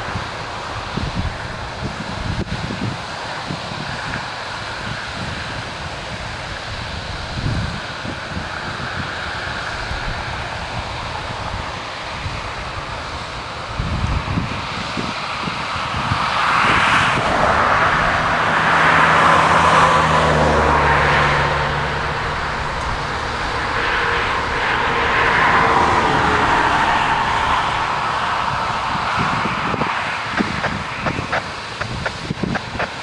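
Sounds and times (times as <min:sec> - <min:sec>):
diesel engine humming: 0:00.0 - 0:14.4, 0:16.0 - 0:33.0
rushing noise: 0:00.0 - 0:33.0.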